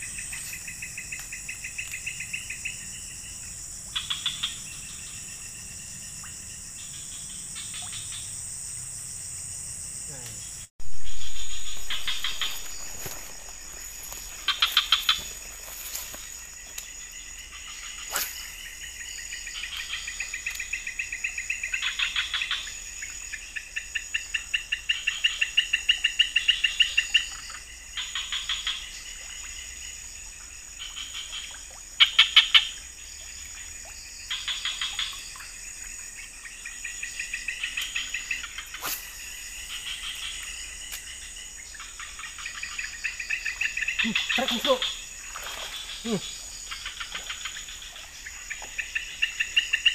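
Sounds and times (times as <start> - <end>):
high-pitched insect drone: 0.0 - 30.0, 34.0 - 49.9
insects chirping: 0.0 - 49.9.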